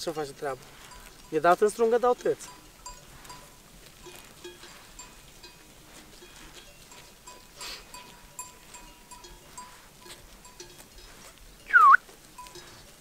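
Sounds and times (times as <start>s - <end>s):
sheep bells tinkling: 0.0s - 13.0s.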